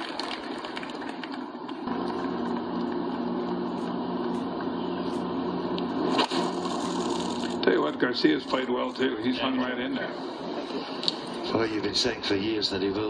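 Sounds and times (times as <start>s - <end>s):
steady drone with low hum: 0.0s - 13.0s.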